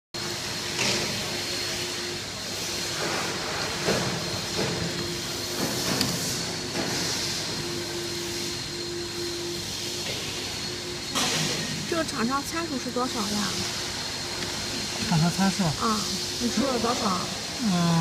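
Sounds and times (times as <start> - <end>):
workshop machinery hum and hiss: 0.2 - 18.0.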